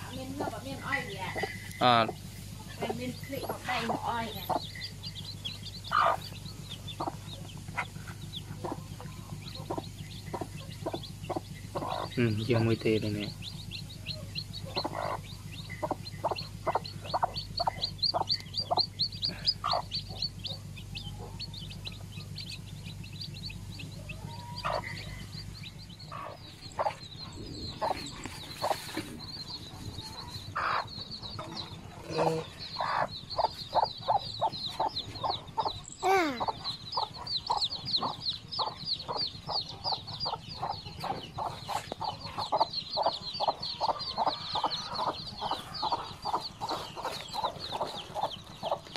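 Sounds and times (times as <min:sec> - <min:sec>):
chicks peeping: 0:00.0 - 0:48.9
hen clucking: 0:00.0 - 0:48.9.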